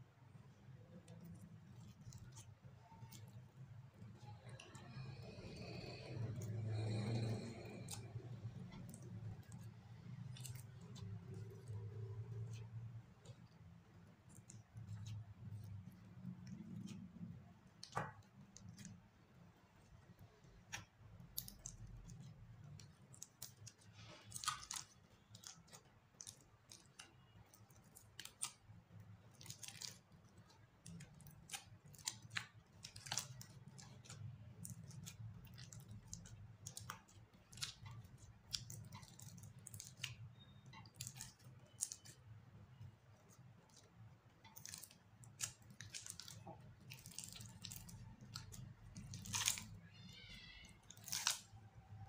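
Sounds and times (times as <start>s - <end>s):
slime squishing with sticky crackles: 0.0s - 52.0s.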